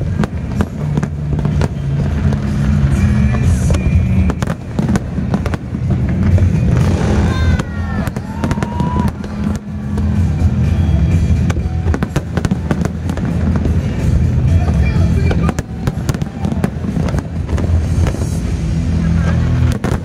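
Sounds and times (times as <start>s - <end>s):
fireworks bursting: 0.0s - 20.0s
low rumble: 0.0s - 20.0s
music playing: 0.0s - 20.0s.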